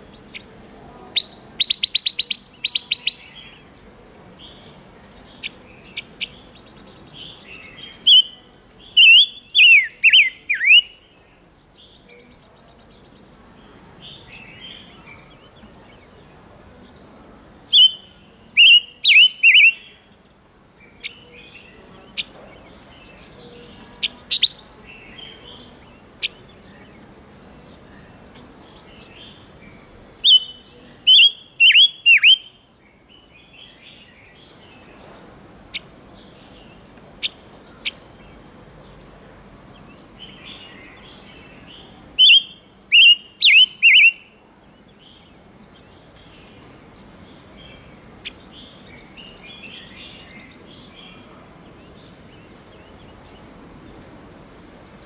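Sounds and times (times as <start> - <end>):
cage bird calling: 0.0 - 17.0, 17.6 - 55.0.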